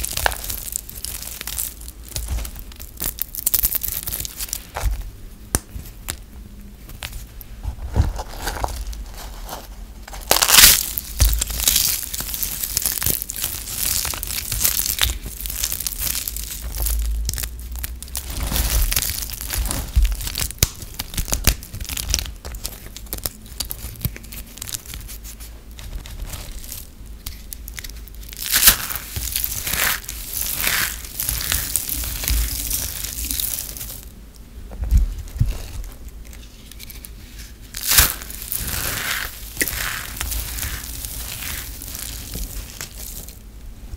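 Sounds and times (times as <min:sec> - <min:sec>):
hands crunching dry soap pieces: 0:00.0 - 0:06.3, 0:06.9 - 0:43.4.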